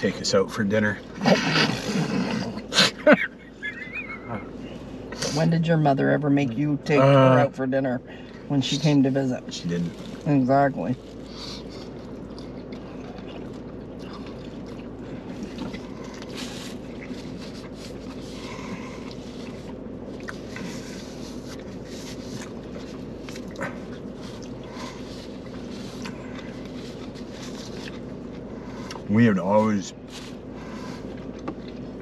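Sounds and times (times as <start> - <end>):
vehicle hum from inside: 0.0 - 32.0.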